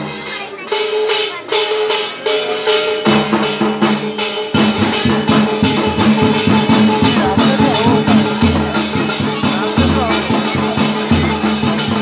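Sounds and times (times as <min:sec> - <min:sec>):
barrel drum beating: 0:00.0 - 0:12.0
jangling metallic percussion: 0:00.0 - 0:12.0.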